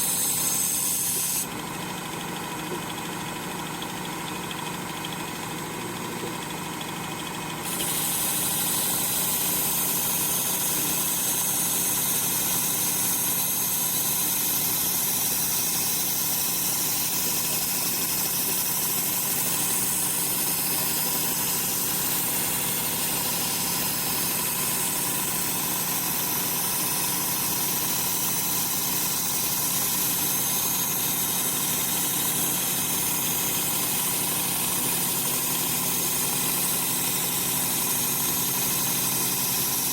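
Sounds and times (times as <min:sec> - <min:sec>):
belt sharpener motor humming: 0:00.0 - 0:39.9.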